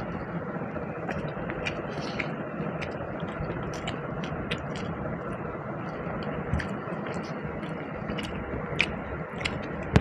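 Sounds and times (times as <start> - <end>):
steady background hum: 0.0 - 10.0
person chewing: 0.9 - 10.0.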